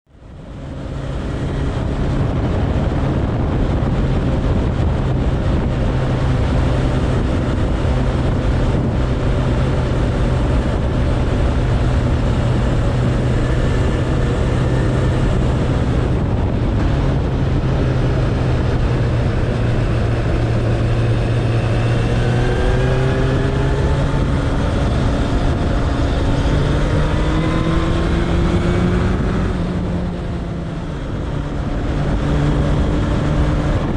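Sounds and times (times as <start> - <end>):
dense rushing noise: 0.1 - 33.9
motorcycle engine running: 0.1 - 33.9.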